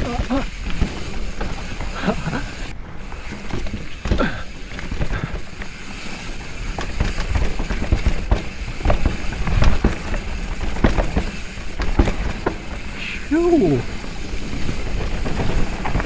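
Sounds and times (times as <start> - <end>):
bike clacking and rattling: 0.0 - 16.0
bike tyres rumbling on dirt: 0.0 - 16.0.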